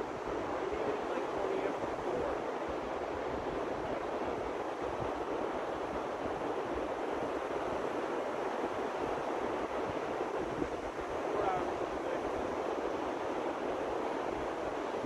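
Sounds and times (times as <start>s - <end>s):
surf: 0.0s - 15.0s
wind buffeting microphone: 0.0s - 15.0s.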